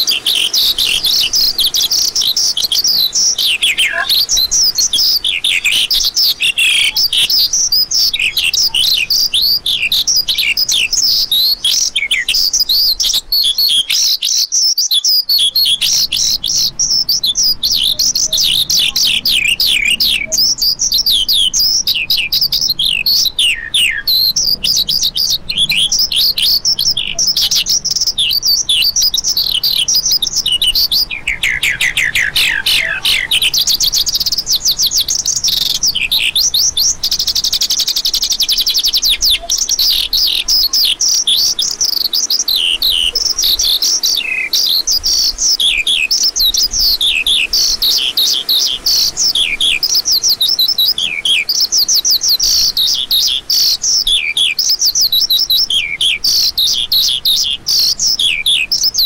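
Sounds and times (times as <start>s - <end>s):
bird singing high chirps and trills: 0.0s - 59.0s.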